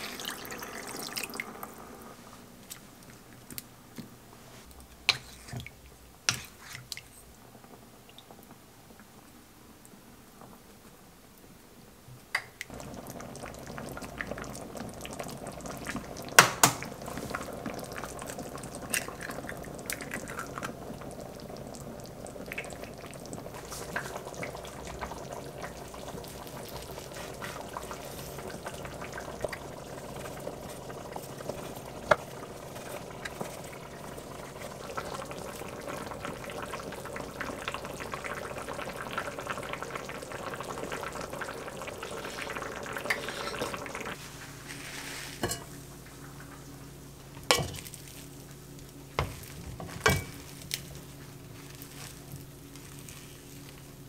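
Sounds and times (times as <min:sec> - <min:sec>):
stew bubbling in a pot: 0:00.0 - 0:03.7, 0:12.3 - 0:44.2, 0:45.3 - 0:54.0.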